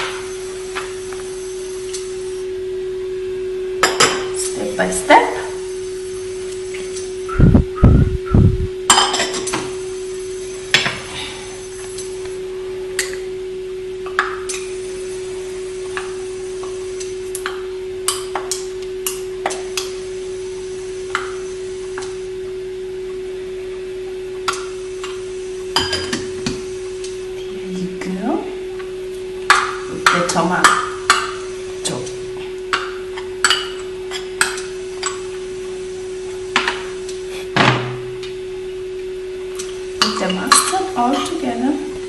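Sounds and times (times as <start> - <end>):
steady pitched hum: 0.0 - 42.0.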